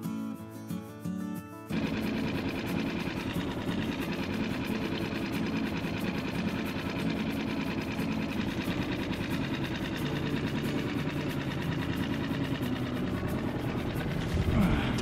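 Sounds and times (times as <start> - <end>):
outboard motor running: 1.7 - 15.0.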